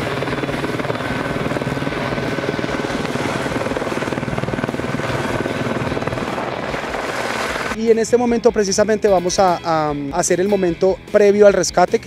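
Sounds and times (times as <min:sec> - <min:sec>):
helicopter rotor chopping overhead: 0:00.0 - 0:12.0.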